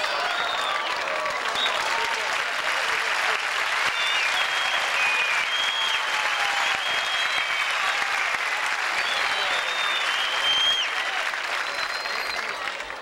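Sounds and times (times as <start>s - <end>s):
crowd applauding and cheering: 0.0s - 13.0s.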